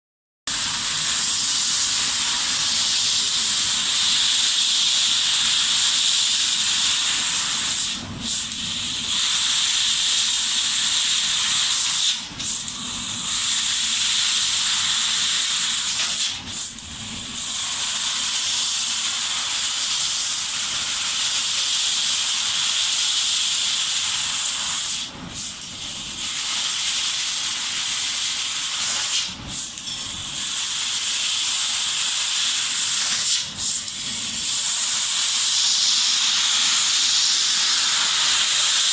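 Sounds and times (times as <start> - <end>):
laser cutter gas jet hissing: 0.5 - 38.9.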